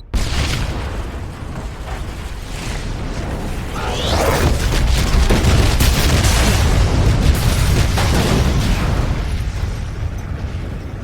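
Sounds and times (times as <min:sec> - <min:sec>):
explosion rumble with crackles: 0:00.0 - 0:11.0.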